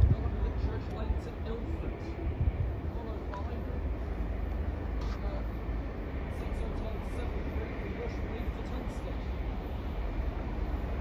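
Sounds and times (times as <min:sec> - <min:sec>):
distant train approaching: 0:00.0 - 0:11.0
wind buffeting microphone: 0:00.0 - 0:11.0.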